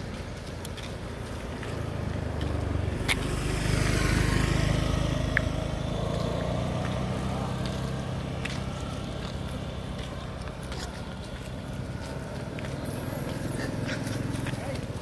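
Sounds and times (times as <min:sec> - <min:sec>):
vehicle engine passing: 0:01.0 - 0:15.0.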